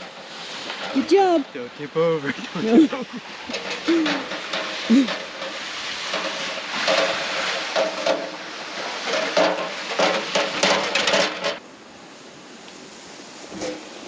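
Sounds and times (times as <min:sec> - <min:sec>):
metal stove rattling in sled: 0:00.0 - 0:11.6.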